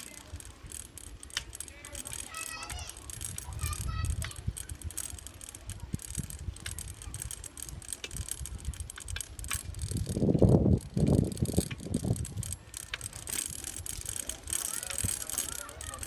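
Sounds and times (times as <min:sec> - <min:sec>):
bicycle rattling and clicking: 0:00.0 - 0:16.0.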